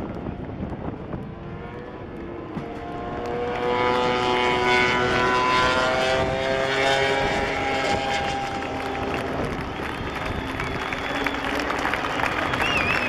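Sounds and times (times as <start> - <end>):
racing motorcycles passing: 0.0 - 13.0.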